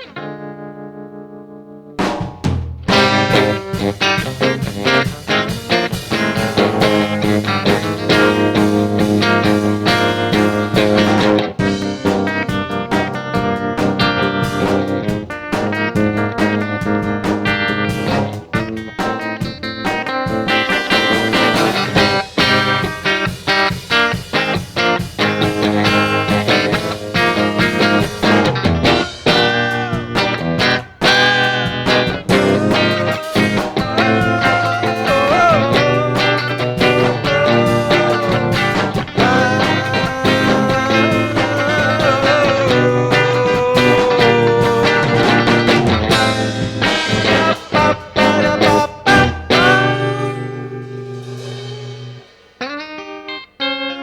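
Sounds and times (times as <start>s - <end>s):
live folk-rock guitar music: 0.0s - 54.0s.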